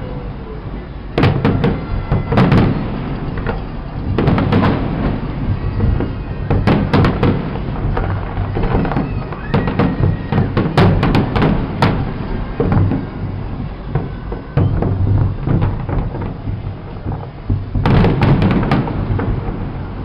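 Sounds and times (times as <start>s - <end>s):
fireworks bangs and crackles: 1.0s - 20.0s.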